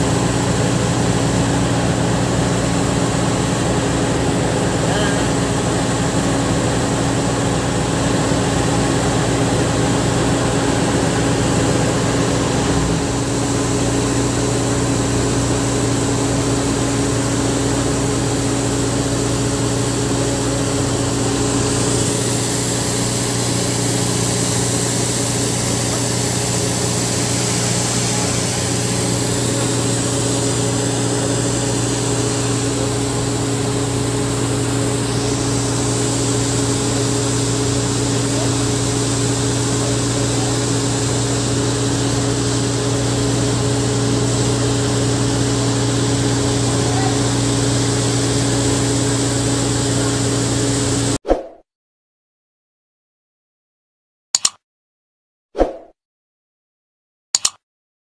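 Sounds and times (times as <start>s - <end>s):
fire truck engine droning: 0.0s - 51.2s.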